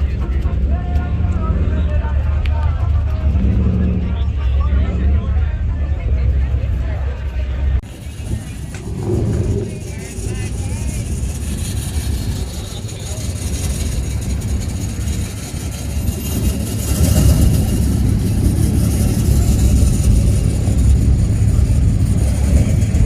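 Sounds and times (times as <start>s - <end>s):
truck engines rumbling: 0.0s - 23.0s.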